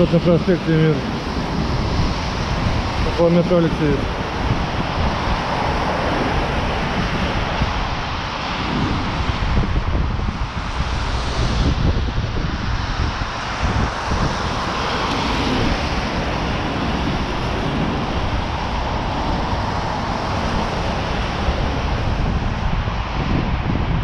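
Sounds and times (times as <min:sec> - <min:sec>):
cars passing on wet asphalt: 0:00.0 - 0:24.0
low traffic rumble: 0:00.0 - 0:24.0.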